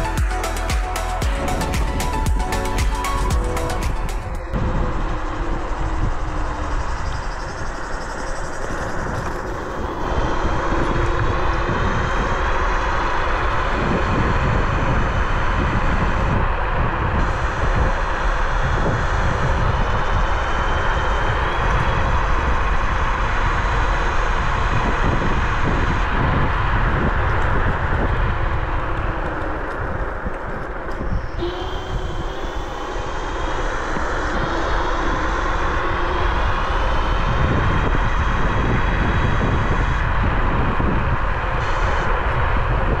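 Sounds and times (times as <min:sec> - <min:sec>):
wind on microphone: 0:00.0 - 0:43.0
faint high electric whine: 0:01.4 - 0:43.0.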